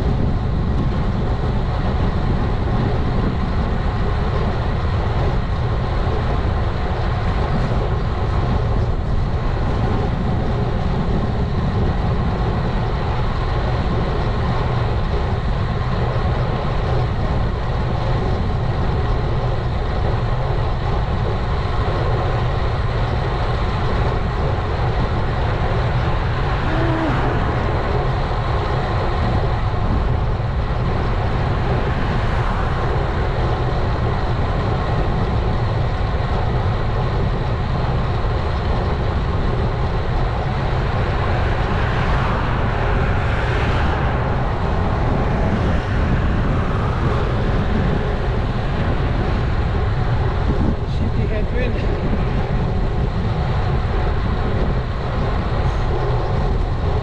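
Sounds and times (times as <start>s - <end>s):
bike tyre road noise: 0.0s - 57.0s
wind rumble on microphone: 0.0s - 57.0s.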